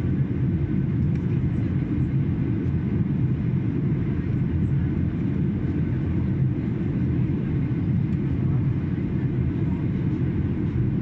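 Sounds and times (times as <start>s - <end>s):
airplane cabin engine and airflow noise: 0.0s - 11.0s.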